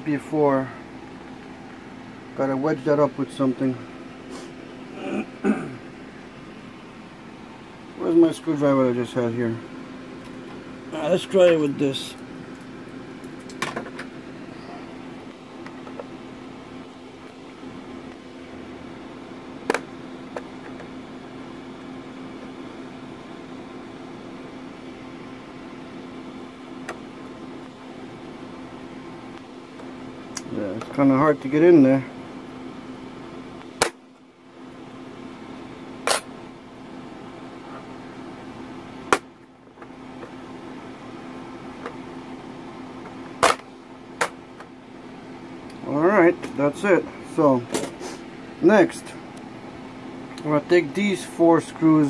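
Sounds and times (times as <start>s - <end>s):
electric fan humming: 0.0s - 52.0s.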